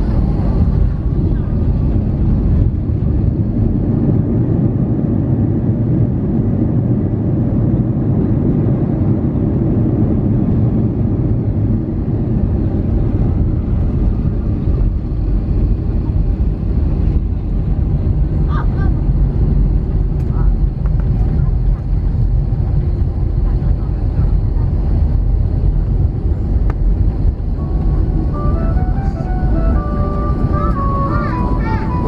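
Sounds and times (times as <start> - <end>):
deep rumble of jet engines: 0.0 - 32.0.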